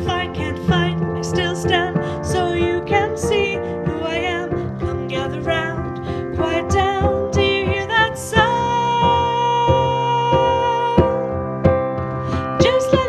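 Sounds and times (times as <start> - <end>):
person singing: 0.0 - 11.4, 12.3 - 13.0
piano accompaniment: 0.0 - 13.0.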